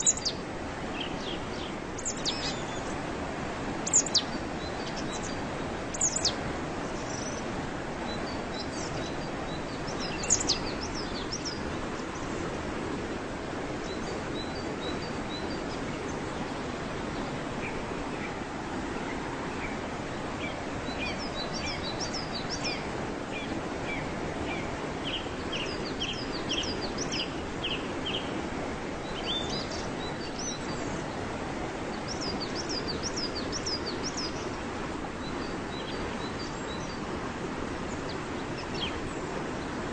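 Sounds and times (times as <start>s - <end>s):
songbirds chirping: 0.0s - 39.9s
waterfall rushing: 0.0s - 39.9s.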